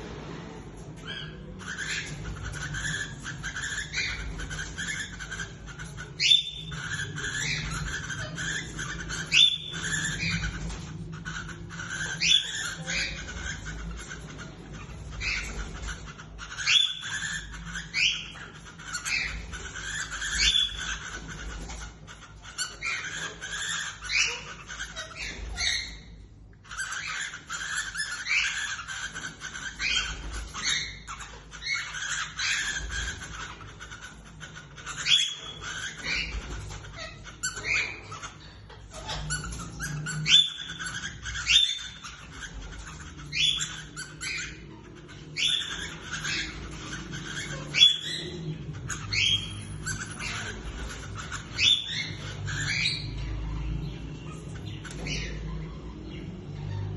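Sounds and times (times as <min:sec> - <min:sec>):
cockatiels chirping: 0:00.2 - 0:56.9.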